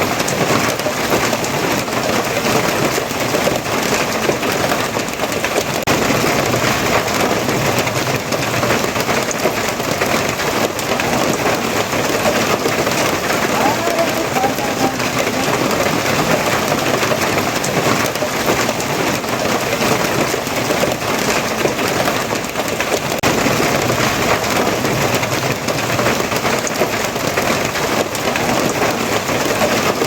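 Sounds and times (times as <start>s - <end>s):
heavy rain splashing: 0.0s - 30.0s.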